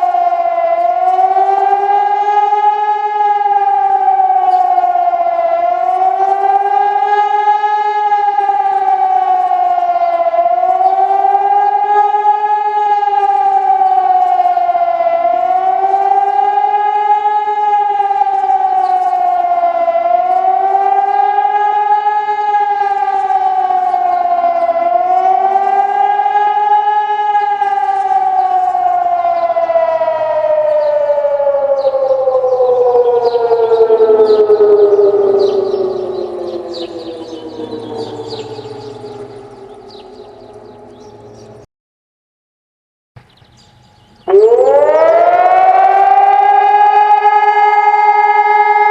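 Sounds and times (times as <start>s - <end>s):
civil defence siren wailing: 0.0s - 41.7s, 44.1s - 48.9s.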